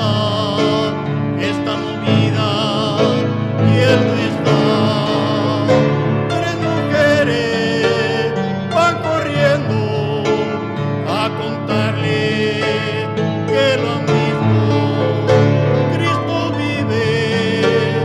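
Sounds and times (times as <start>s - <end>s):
slow song with vibrato melody: 0.0s - 18.0s.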